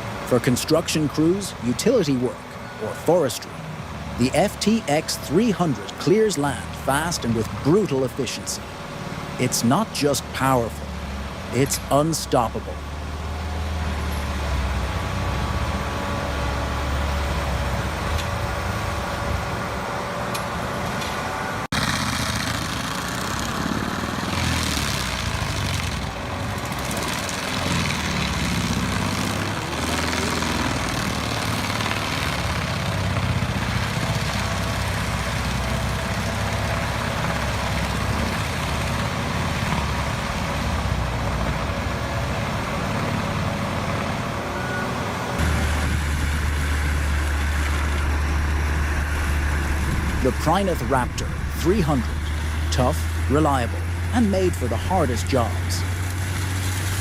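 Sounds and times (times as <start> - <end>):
forestry mulcher engine under load: 0.0 - 57.0.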